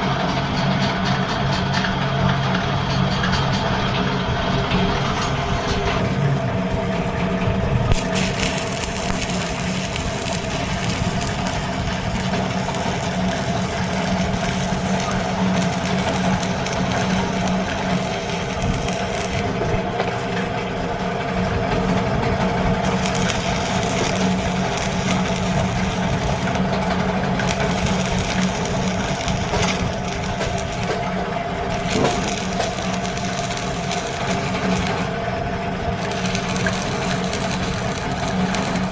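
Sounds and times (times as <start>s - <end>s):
engine running steadily: 0.0s - 38.9s
crackling crunching noise: 5.8s - 38.9s.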